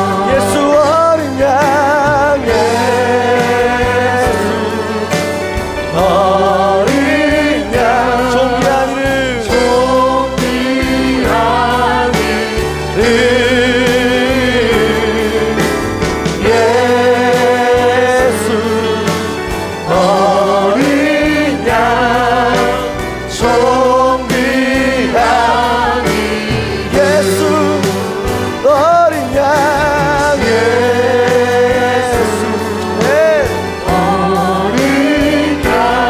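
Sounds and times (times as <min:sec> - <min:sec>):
group singing worship song: 0:00.0 - 0:36.0
steady musical accompaniment: 0:00.0 - 0:36.0.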